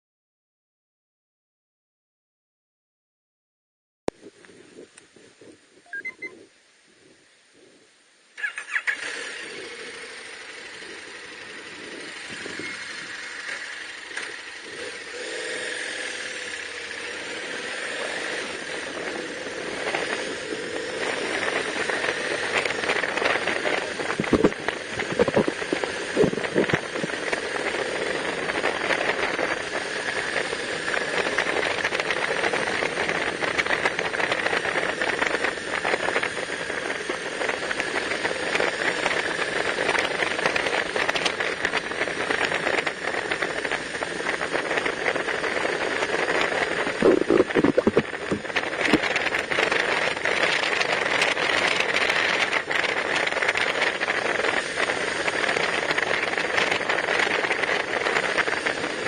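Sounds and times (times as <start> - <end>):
gravel rattling hiss: 4.1 - 59.0
motorcycle engine: 8.4 - 59.0.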